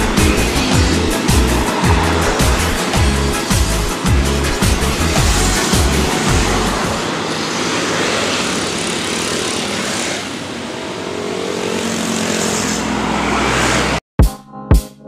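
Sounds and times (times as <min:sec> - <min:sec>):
car passing: 0:00.0 - 0:14.0
small motorcycles passing: 0:00.0 - 0:14.0
truck diesel engine rumbling: 0:00.0 - 0:14.0.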